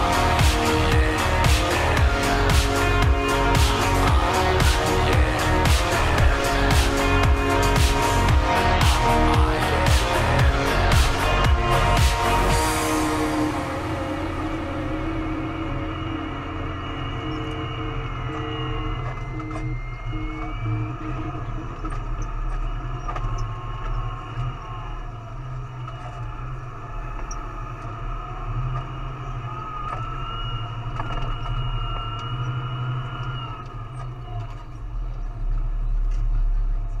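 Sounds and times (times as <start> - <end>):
diesel tractor engine drone: 0.0 - 37.0
thin whine: 0.0 - 37.0.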